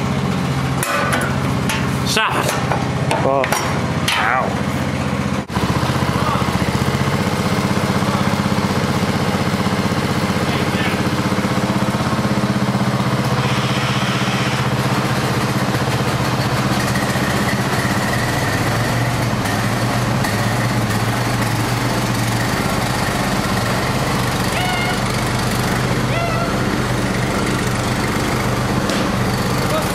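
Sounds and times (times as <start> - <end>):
lawn tractor engine running: 0.0 - 29.9.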